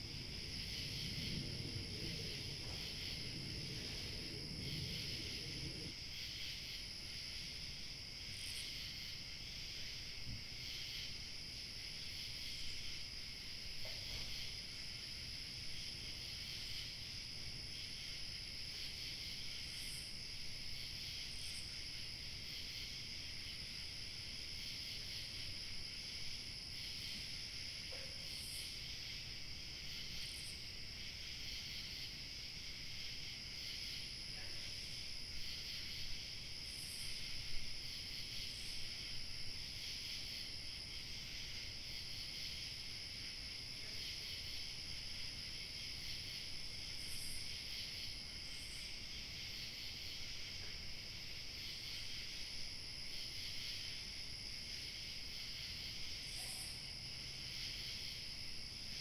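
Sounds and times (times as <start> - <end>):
crickets chirping: 0.0 - 59.0
high insect call: 0.0 - 59.0
light wind hiss: 0.0 - 59.0.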